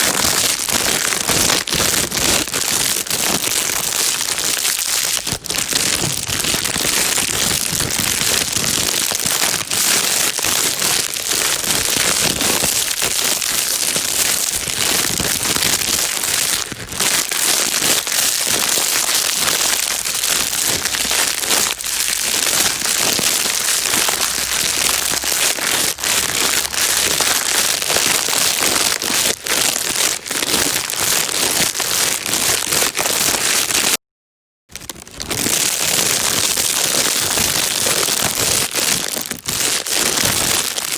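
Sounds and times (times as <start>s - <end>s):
plastic bag crinkling: 0.0s - 34.0s, 34.7s - 40.9s.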